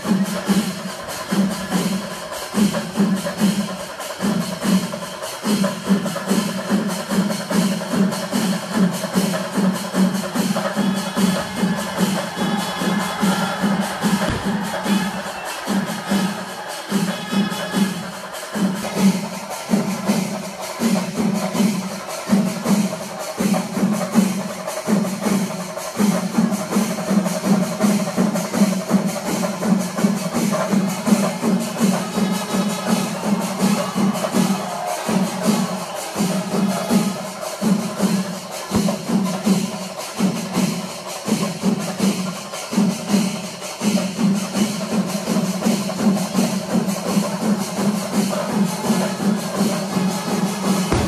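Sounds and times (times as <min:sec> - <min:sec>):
cymbals: 0:00.0 - 0:51.0
fast drumming: 0:00.0 - 0:51.0.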